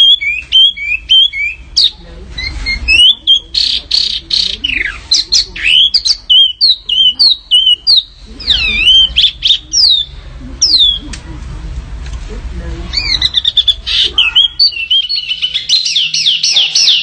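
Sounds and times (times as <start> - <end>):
songbird chirping and whistling: 0.0 - 11.1, 12.9 - 17.0.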